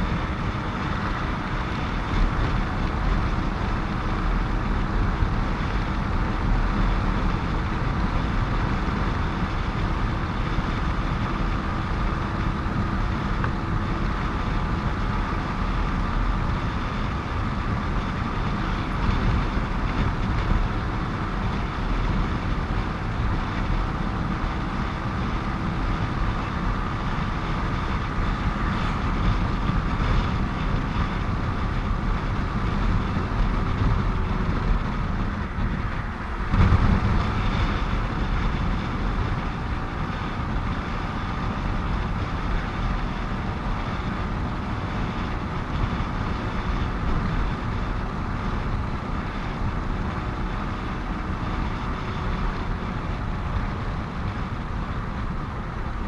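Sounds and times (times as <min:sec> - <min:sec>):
motorcycle engine: 0:00.0 - 0:56.0
traffic noise: 0:00.0 - 0:56.0
wind rumble on microphone: 0:00.0 - 0:56.0.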